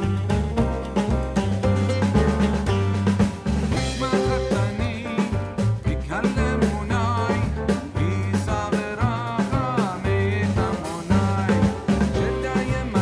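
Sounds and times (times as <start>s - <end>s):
background music with drum beat: 0.0s - 13.0s.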